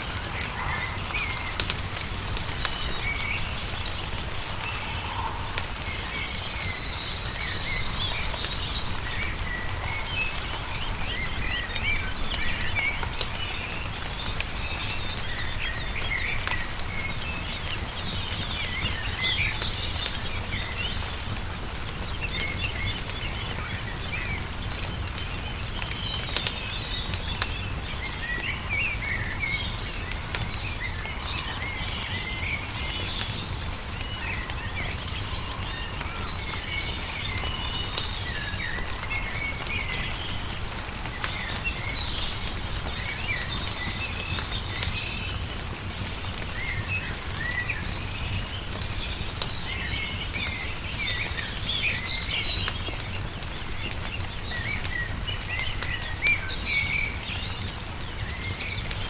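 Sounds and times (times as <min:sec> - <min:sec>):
songbirds chirping: 0:00.0 - 0:59.0
wood fire crackling: 0:00.0 - 0:59.0.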